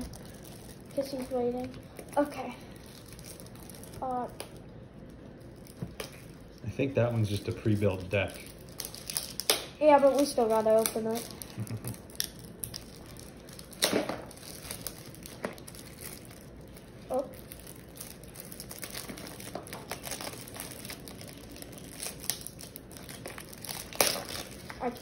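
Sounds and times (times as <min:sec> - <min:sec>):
packaging crinkling and tearing: 0:00.0 - 0:25.0.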